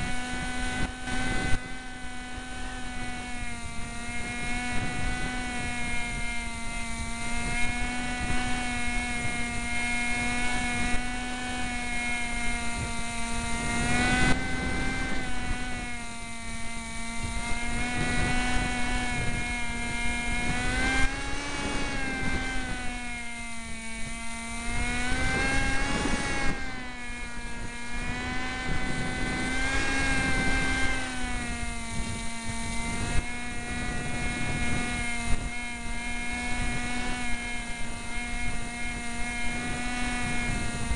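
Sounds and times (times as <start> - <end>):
model plane motor whining: 0.0 - 40.9
wind buffeting microphone: 0.0 - 40.9.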